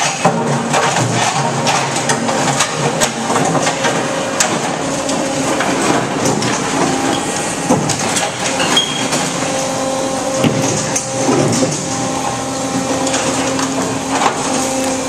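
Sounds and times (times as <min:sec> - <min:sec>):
machine power unit humming: 0:00.0 - 0:15.0.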